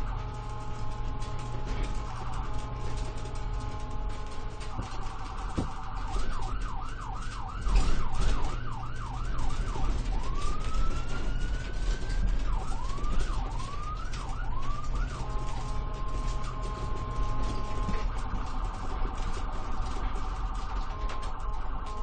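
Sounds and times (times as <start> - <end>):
electronic ambulance siren: 0.0 - 22.0
low vehicle rumble: 0.0 - 22.0.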